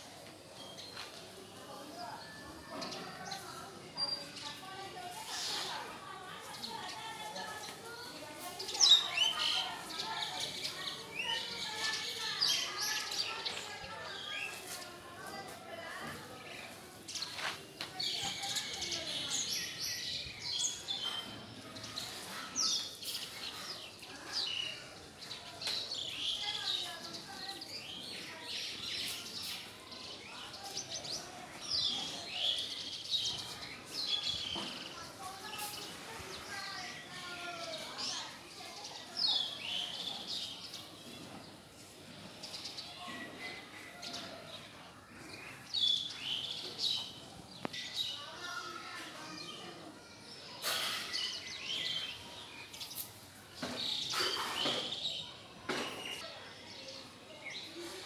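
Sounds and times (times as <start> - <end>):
sparrows chirping: 0.1 - 57.9.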